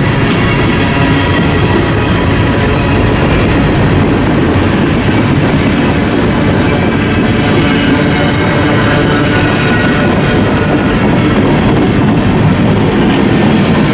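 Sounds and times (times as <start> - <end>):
train wheels on rail: 0.0 - 13.9.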